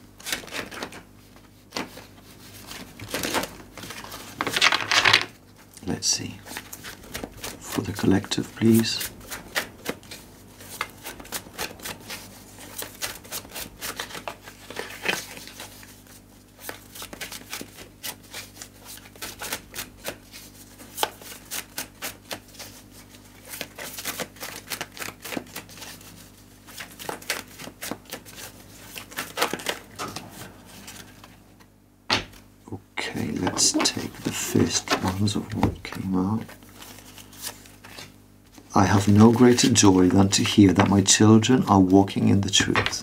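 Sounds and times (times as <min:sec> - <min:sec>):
cards shuffled by hand: 0:00.2 - 0:31.4, 0:33.1 - 0:43.0.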